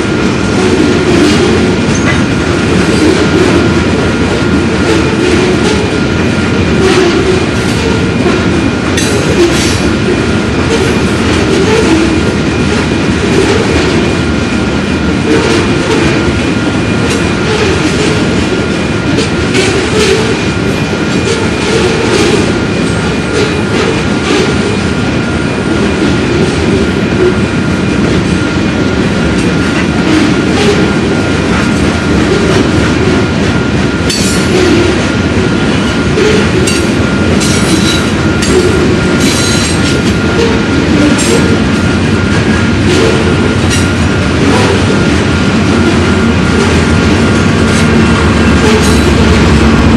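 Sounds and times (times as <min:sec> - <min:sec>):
train cars rumbling past: 0:00.0 - 0:49.9.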